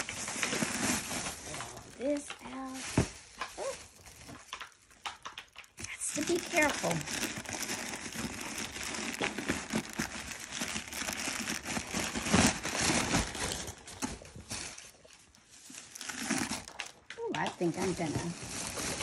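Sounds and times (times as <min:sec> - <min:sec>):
tissue paper rustling and crinkling: 0:00.0 - 0:19.0.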